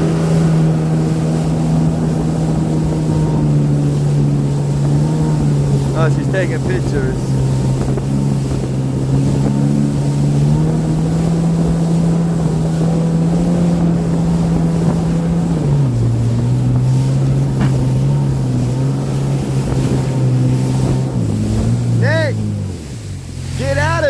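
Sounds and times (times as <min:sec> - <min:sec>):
jet ski engine running: 0:00.0 - 0:24.0
wind on microphone: 0:00.0 - 0:24.0.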